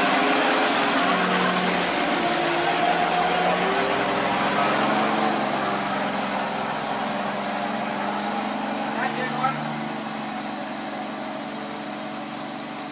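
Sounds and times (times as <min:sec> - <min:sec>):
diesel truck engine driving past: 0:00.0 - 0:12.9.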